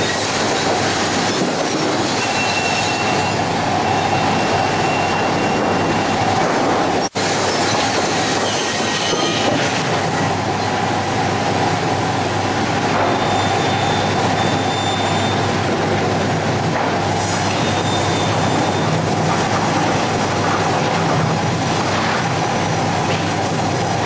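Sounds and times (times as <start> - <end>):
sawmill machinery din: 0.0 - 24.0.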